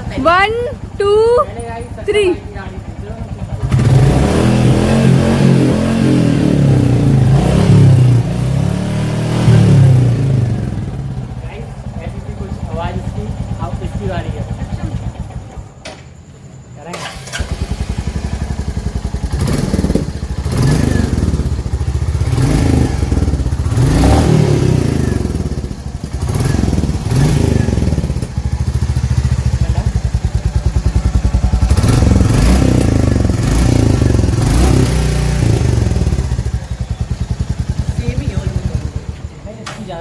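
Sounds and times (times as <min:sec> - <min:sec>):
motorcycle engine revving: 0:00.0 - 0:15.8, 0:16.5 - 0:40.0.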